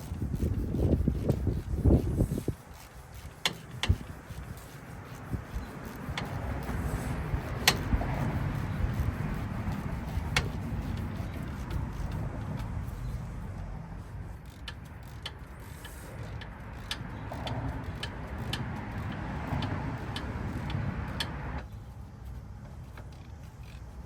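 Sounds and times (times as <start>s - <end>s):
hand ratchet clicking: 0.0s - 21.4s
low steady rumble: 0.0s - 24.0s.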